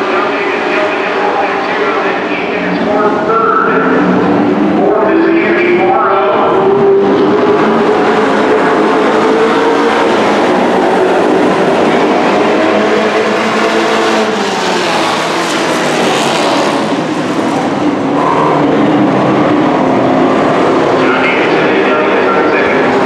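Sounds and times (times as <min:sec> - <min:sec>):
race truck engines revving: 0:00.0 - 0:23.0.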